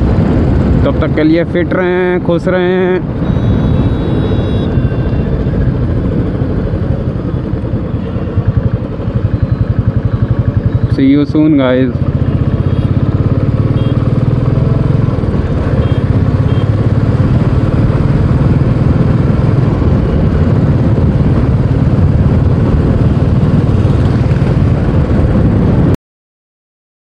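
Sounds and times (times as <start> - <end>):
motorcycle engine running: 1.8 - 25.9.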